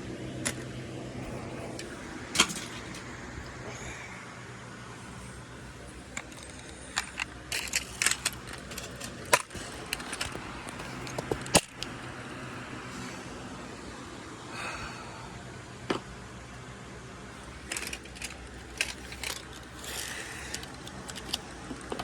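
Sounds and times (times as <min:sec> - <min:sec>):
car engine and road hum: 0:00.0 - 0:22.0.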